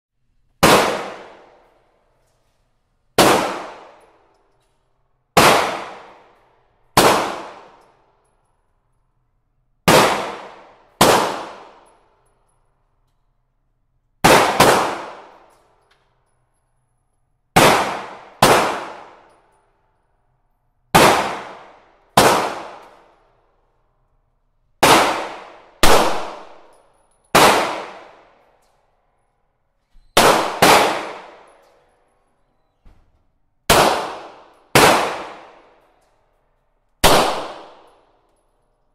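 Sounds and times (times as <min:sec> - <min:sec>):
gunshots on indoor range: 0:00.4 - 0:38.9.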